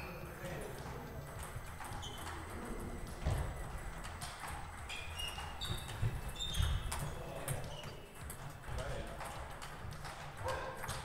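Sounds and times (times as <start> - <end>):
table tennis ball hitting bats: 0.6 - 11.0.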